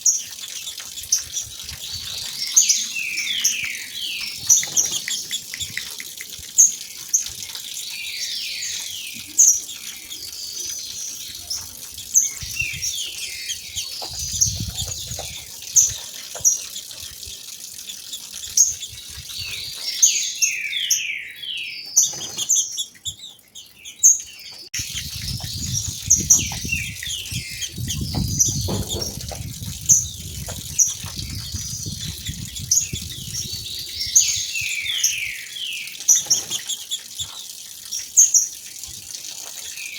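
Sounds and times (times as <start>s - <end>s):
low rumble of falling water: 0.0s - 21.0s, 24.8s - 39.9s
birds chirping: 0.0s - 39.9s.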